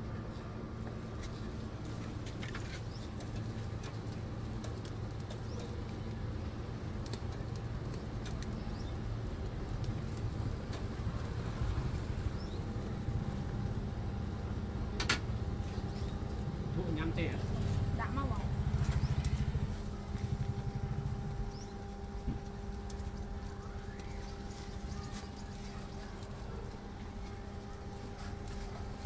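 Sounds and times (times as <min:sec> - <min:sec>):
traffic rumble: 0:00.0 - 0:29.0.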